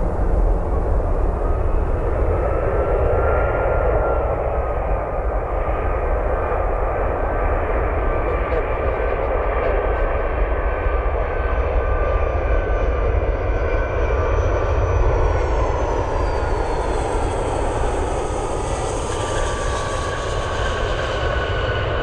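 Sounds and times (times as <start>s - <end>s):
jet airliner landing: 0.0s - 22.0s.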